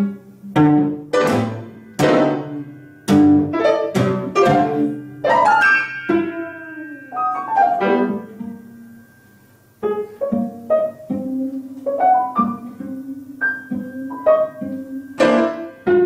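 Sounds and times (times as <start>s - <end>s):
cello accented bow strokes: 0.0s - 16.0s
piano: 0.0s - 16.0s.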